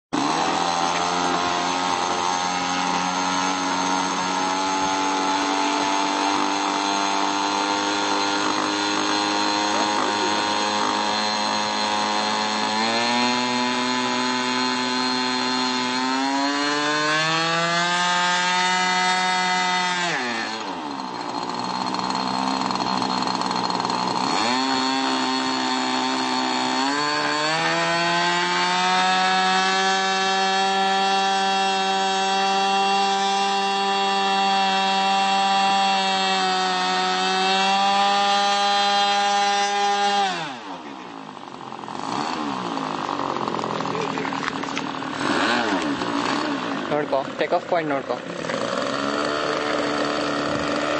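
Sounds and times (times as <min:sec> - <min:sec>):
model airplane engine buzzing: 0:00.1 - 0:50.9.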